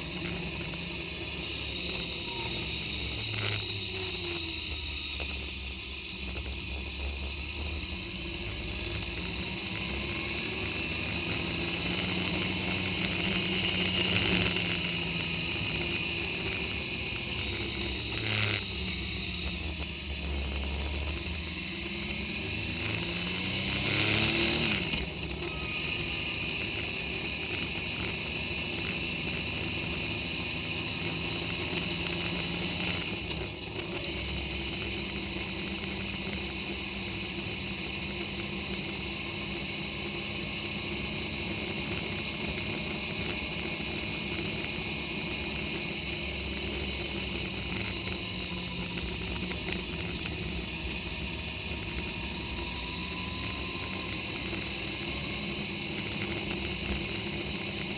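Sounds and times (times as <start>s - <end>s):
motorcycle engine accelerating: 0.0s - 57.9s
wind and road noise: 0.0s - 57.9s.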